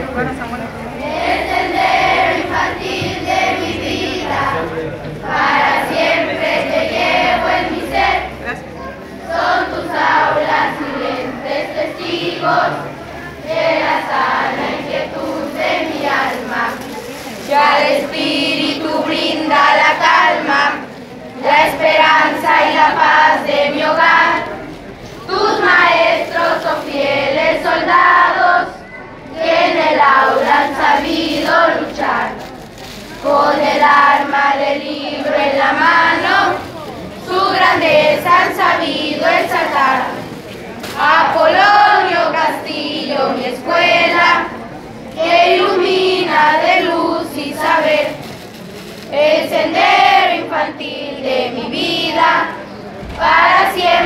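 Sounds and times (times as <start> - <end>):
children's choir singing: 0.0 - 48.5, 49.1 - 54.0.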